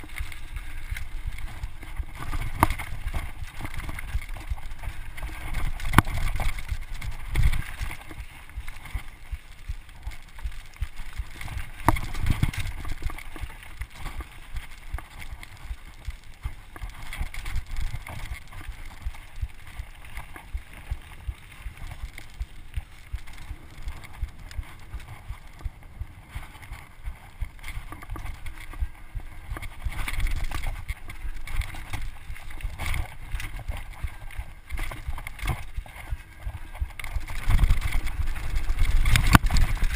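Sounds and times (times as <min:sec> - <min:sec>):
bike rattling and clattering: 0:00.0 - 0:39.9
bike tyres rumbling over rock: 0:00.0 - 0:39.9.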